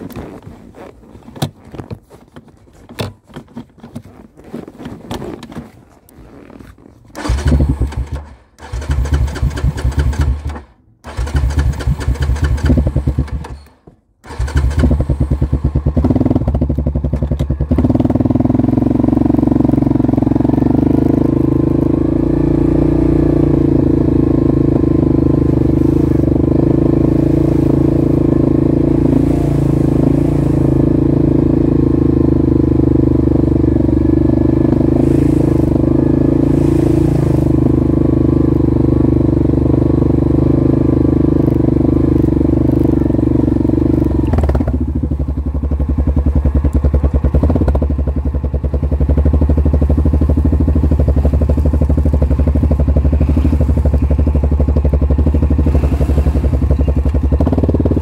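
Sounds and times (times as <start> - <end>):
atv engine running: 7.1 - 58.0.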